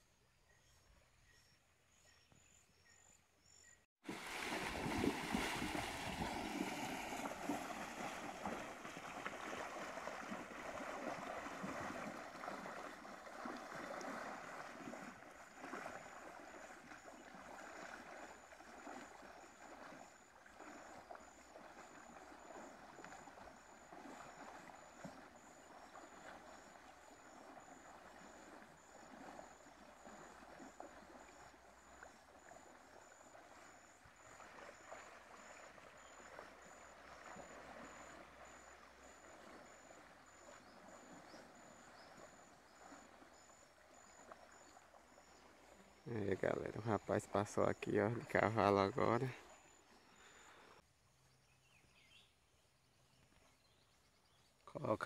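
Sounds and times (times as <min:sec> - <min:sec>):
horse wading through water: 0:04.0 - 0:50.8.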